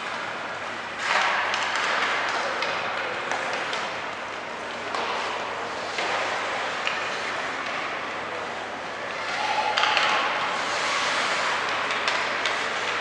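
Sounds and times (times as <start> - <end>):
crowd and play noise: 1.2 - 13.0.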